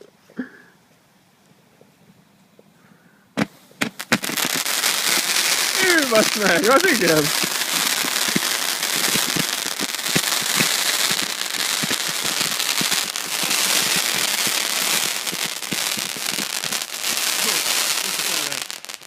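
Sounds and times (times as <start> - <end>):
firework hissing and crackling: 3.4 - 19.0.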